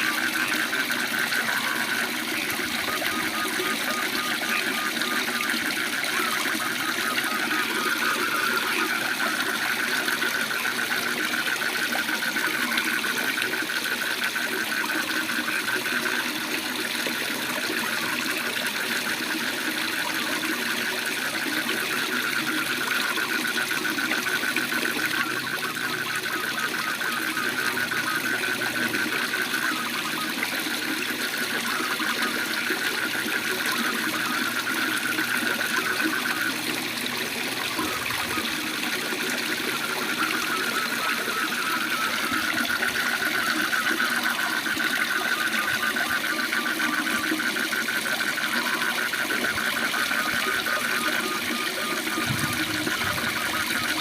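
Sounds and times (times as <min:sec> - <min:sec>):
frogs trilling: 0:00.0 - 0:54.0.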